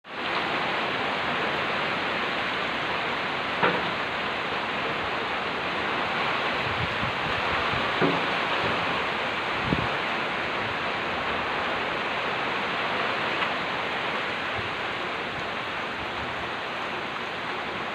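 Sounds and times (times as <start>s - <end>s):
heavy rain pouring: 0.0s - 17.9s
wind rumbling on microphone: 0.1s - 17.9s.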